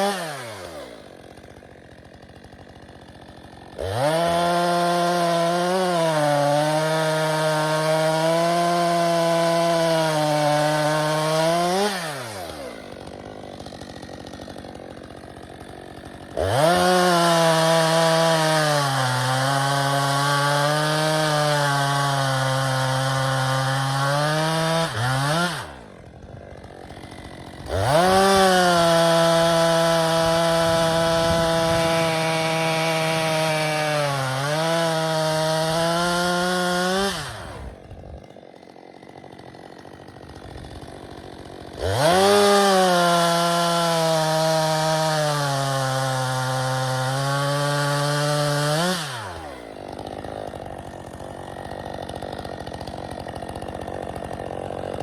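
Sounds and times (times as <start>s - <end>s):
chainsaw cutting through log: 0.0s - 55.0s.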